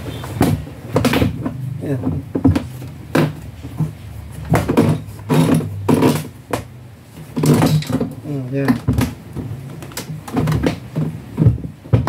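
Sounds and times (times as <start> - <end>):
plastic parts knocking and clunking: 0.0 - 12.0.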